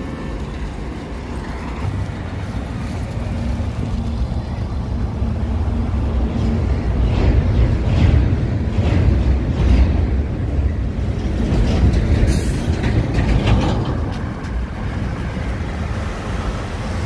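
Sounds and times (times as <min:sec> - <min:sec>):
road traffic passing close by: 0:00.0 - 0:17.0.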